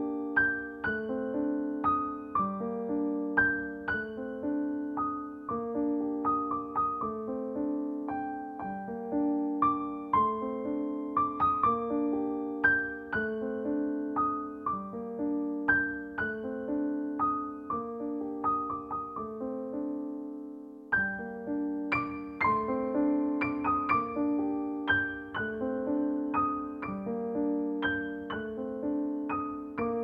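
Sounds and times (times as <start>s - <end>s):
solo piano melody: 0.0s - 30.0s.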